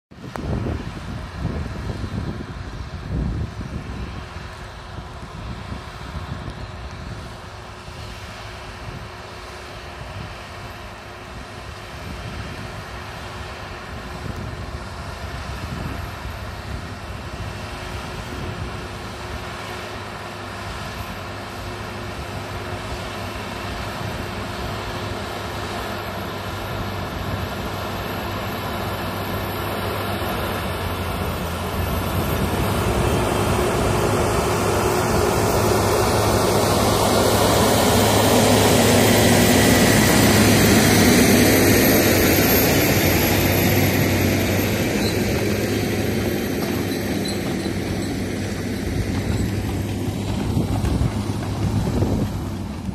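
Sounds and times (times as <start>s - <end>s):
tractor diesel engine running: 0.2s - 52.9s.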